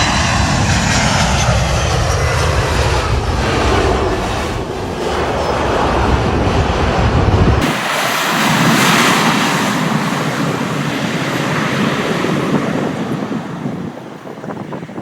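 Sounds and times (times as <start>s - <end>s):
deep rumble: 0.0s - 14.7s
aircraft rolling on wet runway: 0.0s - 15.0s.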